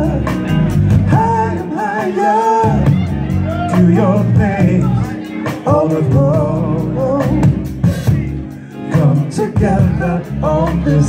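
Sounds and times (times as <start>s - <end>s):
drums: 0.0s - 11.0s
electric bass: 0.0s - 11.0s.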